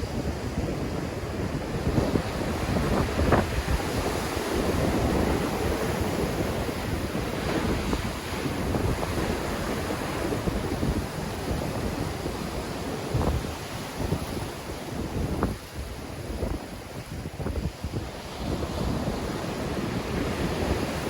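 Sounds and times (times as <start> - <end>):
sea waves breaking on shore: 0.0 - 21.0
wind buffeting microphone: 0.0 - 21.0.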